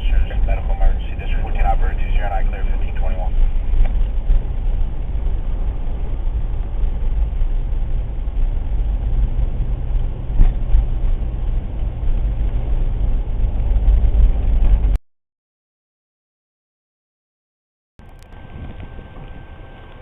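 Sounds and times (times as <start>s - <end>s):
wind buffeting microphone: 0.0s - 15.0s, 18.0s - 20.0s.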